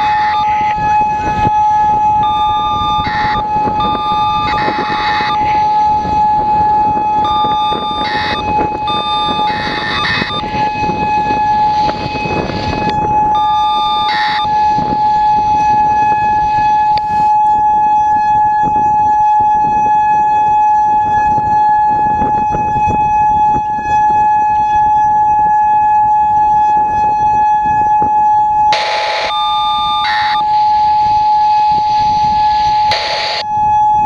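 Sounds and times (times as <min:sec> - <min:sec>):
electronic warning siren steady tone: 0:00.0 - 0:34.0
wind buffeting microphone: 0:00.0 - 0:34.0.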